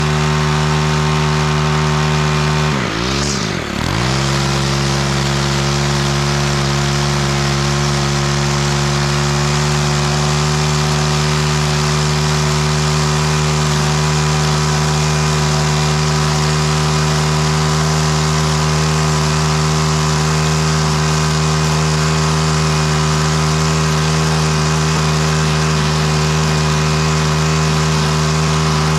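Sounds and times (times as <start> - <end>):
string trimmer engine revving: 0.0 - 28.9.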